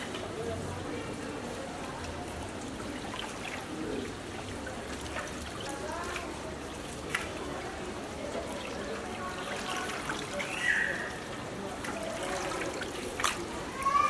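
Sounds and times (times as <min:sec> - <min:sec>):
faint background voices: 0:00.0 - 0:14.0
water trickling: 0:00.0 - 0:14.0.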